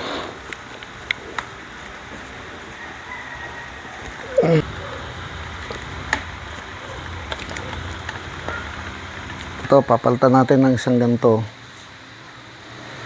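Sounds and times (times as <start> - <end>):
background noise with low hum: 0.0 - 13.0.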